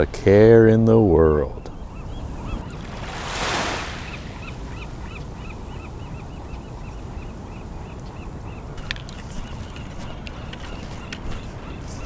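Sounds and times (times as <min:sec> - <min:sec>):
small waves on a beach: 0:01.9 - 0:12.0.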